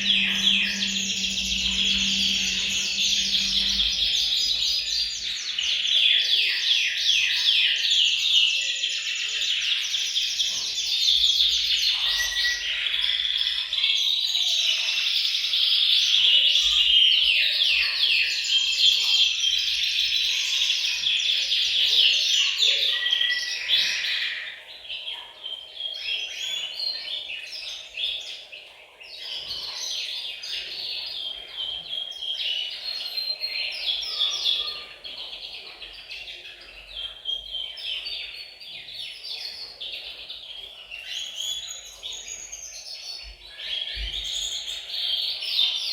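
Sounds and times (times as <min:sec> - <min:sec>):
canaries singing: 0:00.0 - 0:45.9.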